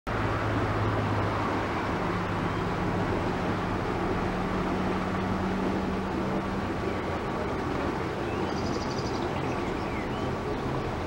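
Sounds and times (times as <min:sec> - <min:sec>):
boat engine humming: 0:00.1 - 0:11.0
rushing water and air: 0:00.1 - 0:11.0.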